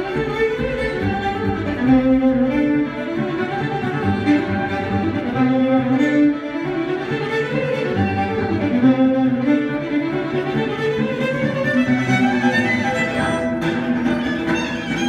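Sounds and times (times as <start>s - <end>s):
fiddle melody: 0.0s - 15.0s
sustained low string notes: 0.0s - 15.0s.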